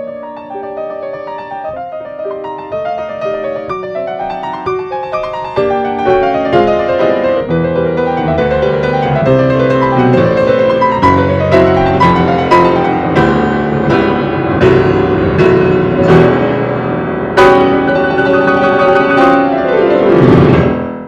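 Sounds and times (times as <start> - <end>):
solo grand piano playing a tango: 0.0 - 21.0.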